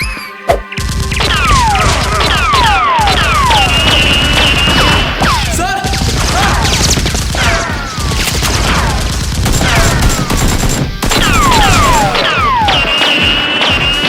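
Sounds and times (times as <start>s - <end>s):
rapid gunfire: 0.7s - 14.0s.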